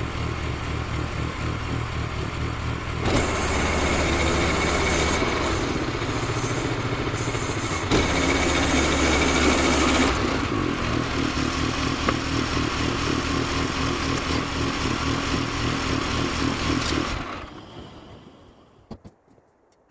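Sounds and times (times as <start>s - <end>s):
sawmill gas engine running: 0.0s - 18.9s.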